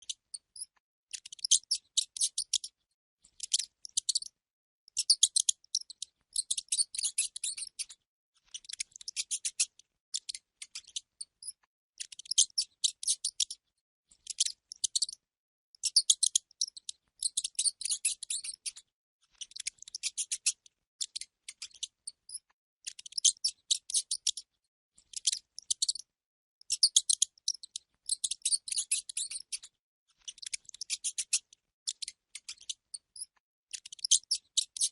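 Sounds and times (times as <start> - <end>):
rat squeaking: 0.0 - 15.2, 15.8 - 34.9.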